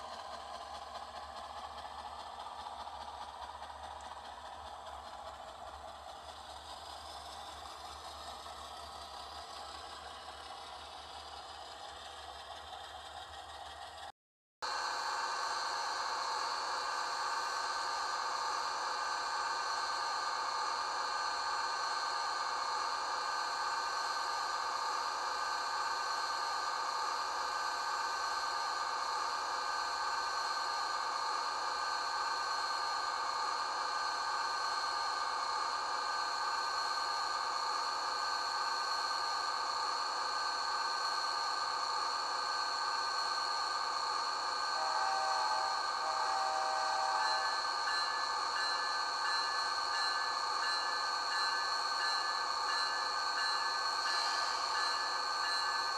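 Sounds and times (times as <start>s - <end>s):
hissy diesel engine drone: 0.0s - 55.9s.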